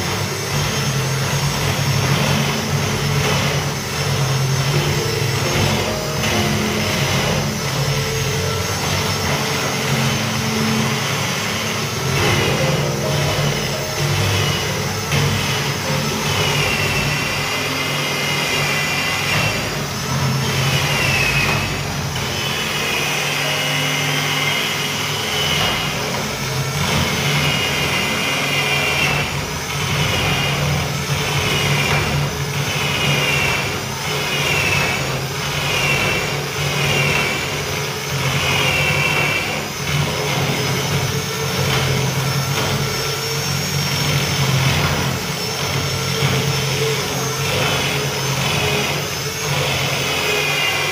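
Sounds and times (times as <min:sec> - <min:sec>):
electric drill boring into wood: 0:00.0 - 0:50.9.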